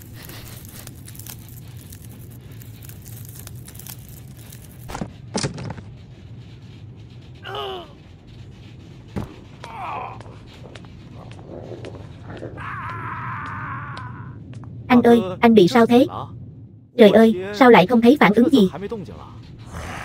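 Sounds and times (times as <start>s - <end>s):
crackling noise: 0.0s - 20.0s.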